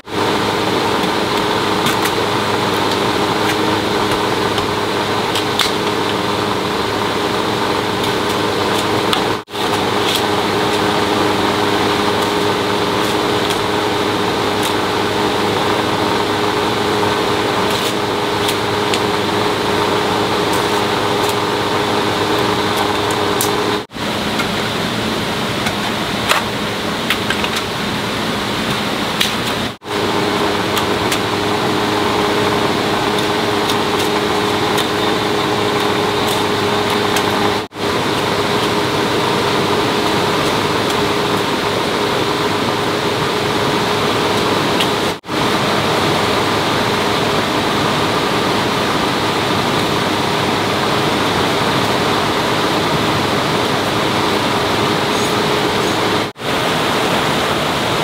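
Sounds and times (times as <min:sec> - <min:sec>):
water flowing: 0:00.0 - 0:58.0
water turbine humming: 0:00.0 - 0:58.0.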